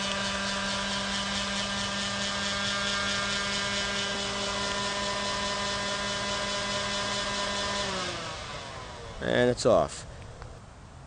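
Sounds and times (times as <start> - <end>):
electric sander humming: 0.0 - 10.4.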